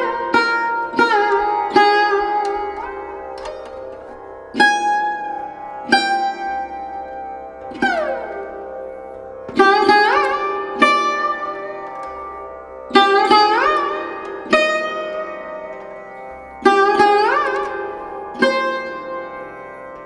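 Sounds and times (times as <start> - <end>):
plucked string instrument notes: 0.0 - 20.0.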